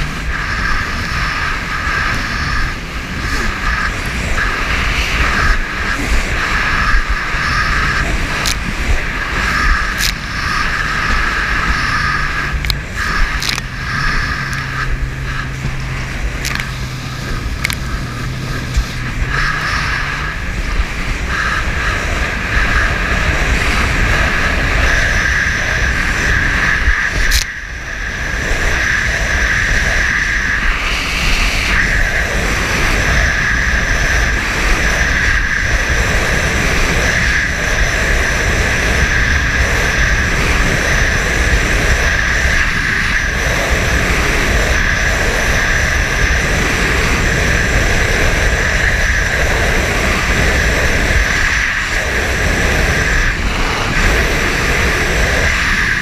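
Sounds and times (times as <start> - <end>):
boat engine running: 0.0 - 56.0
wind and water rushing: 0.0 - 56.0.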